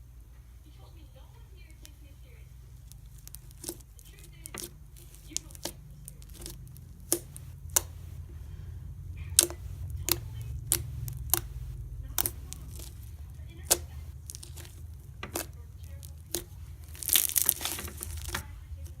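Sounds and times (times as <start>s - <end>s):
steady low hum: 0.0s - 19.0s
slime popping and clicking: 2.8s - 8.3s, 9.2s - 19.0s.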